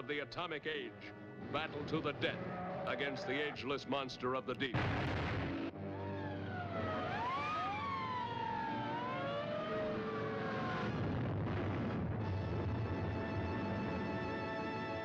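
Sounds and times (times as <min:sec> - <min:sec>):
sirens wailing: 0:00.7 - 0:03.8, 0:05.6 - 0:15.0.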